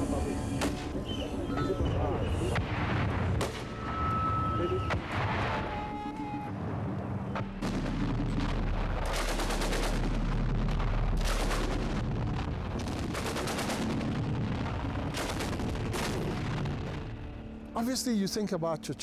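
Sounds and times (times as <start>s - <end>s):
steady low drone: 0.0s - 17.8s.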